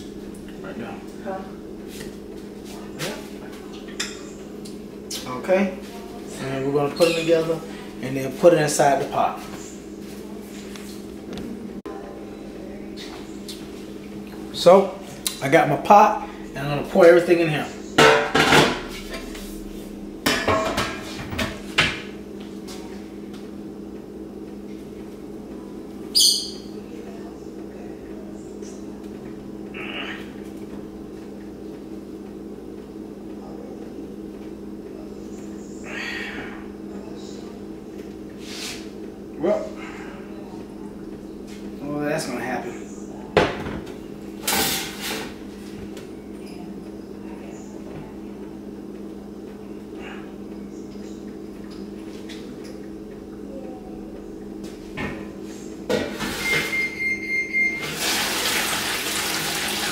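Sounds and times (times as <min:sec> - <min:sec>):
steady low hum: 0:00.0 - 0:57.8.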